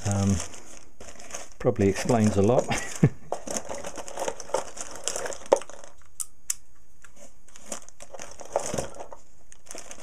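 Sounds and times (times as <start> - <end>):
rustling in box: 0.0 - 6.0, 7.2 - 10.0
plastic bags crinkling: 0.0 - 6.2, 7.5 - 10.0.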